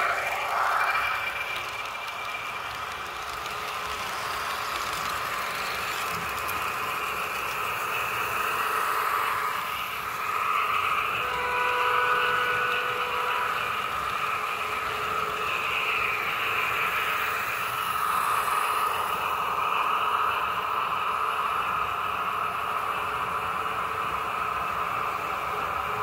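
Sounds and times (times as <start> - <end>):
model train whirring on track: 0.0 - 26.0.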